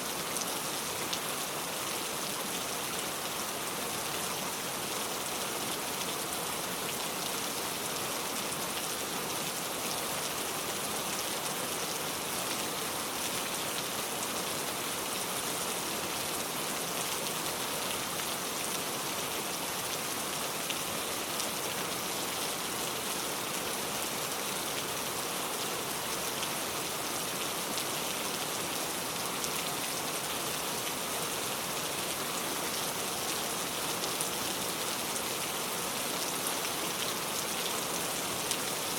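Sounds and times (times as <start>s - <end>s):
rain pattering on a surface: 0.1s - 38.9s.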